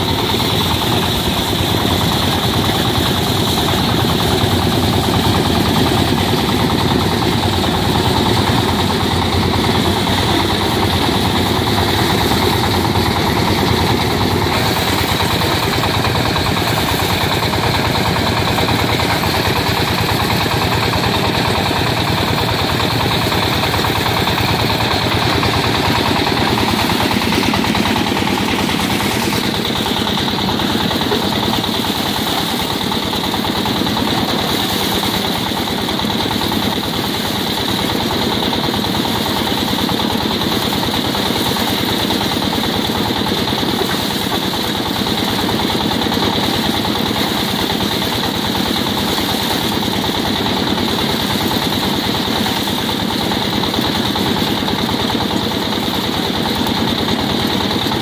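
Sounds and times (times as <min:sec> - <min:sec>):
diesel engine knocking: 0:00.0 - 0:58.0
threshing drum whirring: 0:00.0 - 0:58.0.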